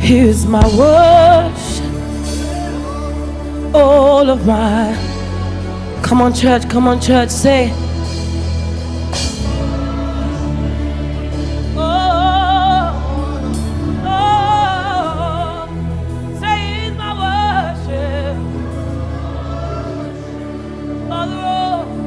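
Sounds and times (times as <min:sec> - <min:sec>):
person singing with vibrato: 0:00.0 - 0:08.0, 0:09.4 - 0:22.0
band playing gospel music: 0:00.0 - 0:22.0.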